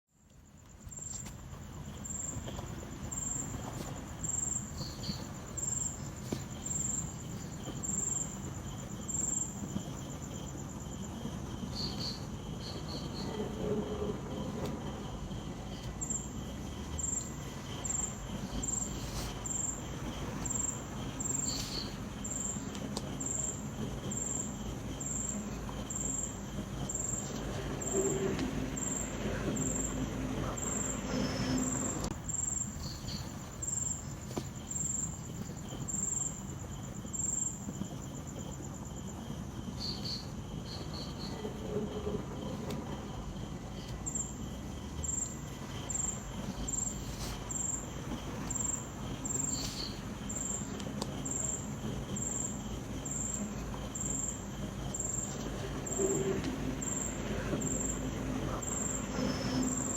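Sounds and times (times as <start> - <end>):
crickets chirping: 0.1 - 59.9
gentle night wind hiss: 0.2 - 59.9.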